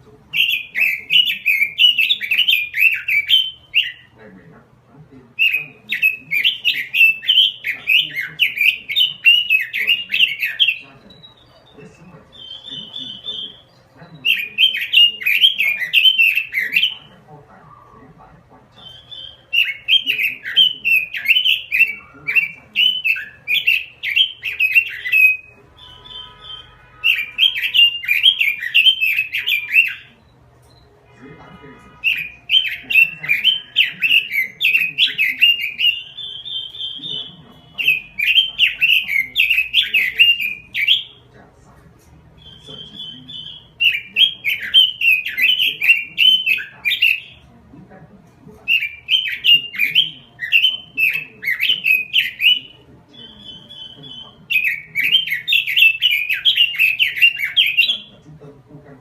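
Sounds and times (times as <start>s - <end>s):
high even bird notes: 0.0s - 41.4s, 48.6s - 58.2s
bird warbling: 0.0s - 58.2s.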